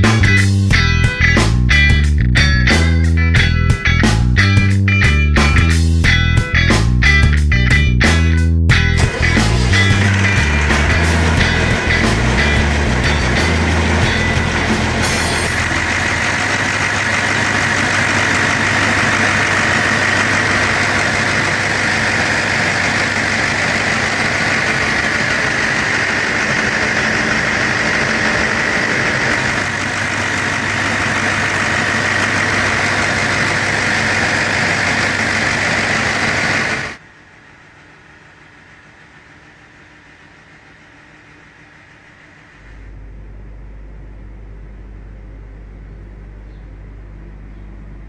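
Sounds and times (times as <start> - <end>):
generator engine droning: 0.0 - 48.0.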